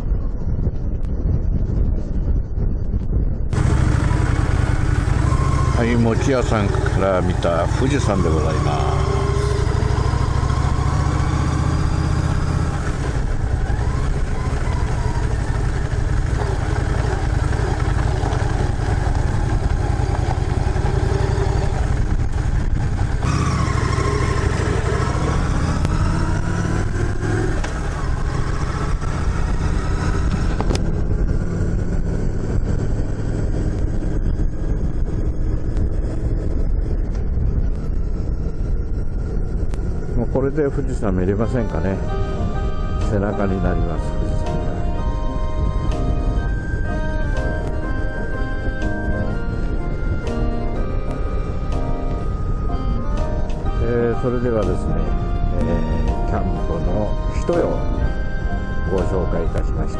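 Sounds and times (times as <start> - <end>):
motorcycle engine accelerating: 0.1 - 59.9.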